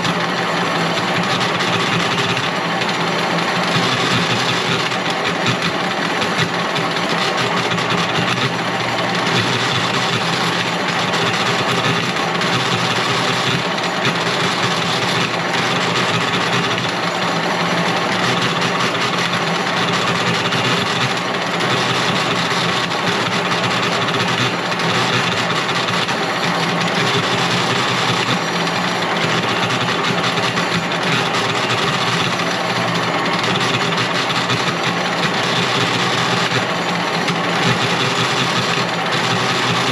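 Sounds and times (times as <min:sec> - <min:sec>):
machine motor running: 0:00.0 - 0:39.9.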